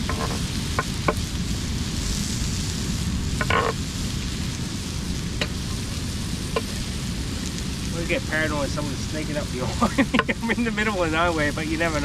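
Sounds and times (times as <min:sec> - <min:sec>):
fish sizzling in a pan: 0:00.0 - 0:12.0
surf rushing: 0:00.0 - 0:12.0.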